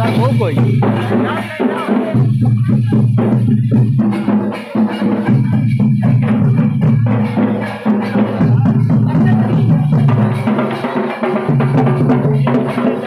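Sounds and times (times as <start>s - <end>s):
percussion strikes: 0.0s - 13.0s.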